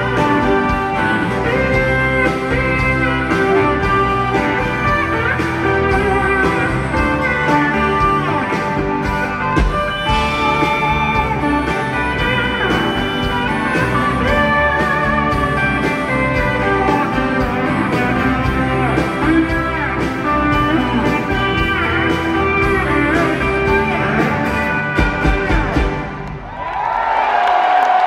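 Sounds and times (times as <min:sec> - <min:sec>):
guitar lines sliding in pitch: 0:00.0 - 0:25.8
live rock band playing: 0:00.0 - 0:26.6.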